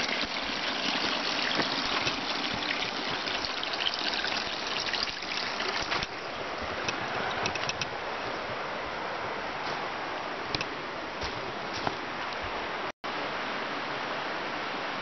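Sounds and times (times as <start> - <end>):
stream trickling: 0.0 - 12.9.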